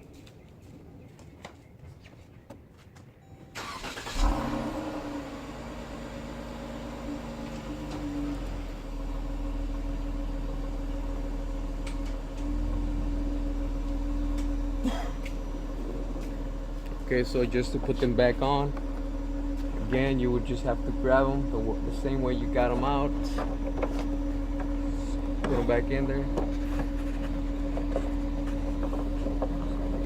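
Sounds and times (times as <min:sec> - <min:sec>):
car engine cranking and starting: 0:03.6 - 0:30.0
car engine idling: 0:03.6 - 0:30.0.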